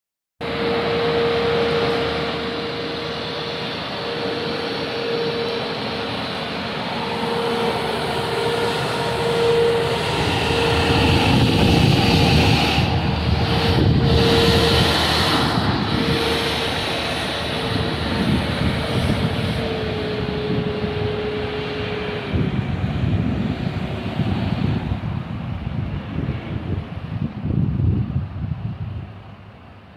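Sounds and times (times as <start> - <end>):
diesel engine driving past: 0.4 - 27.0
steady whine: 0.4 - 27.4.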